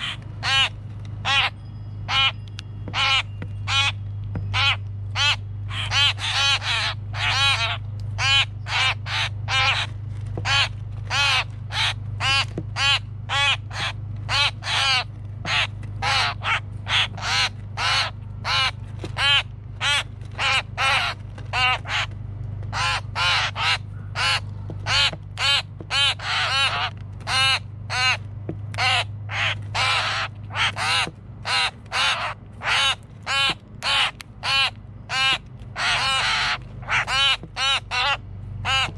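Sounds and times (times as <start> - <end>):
bird fledglings begging calls: 0.0 - 22.1, 22.7 - 28.2, 28.8 - 38.9
low hum: 0.0 - 38.9.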